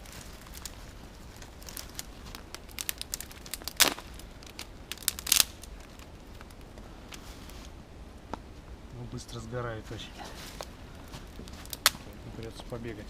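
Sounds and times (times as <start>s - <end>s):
twigs crackling in campfire: 0.0s - 13.0s.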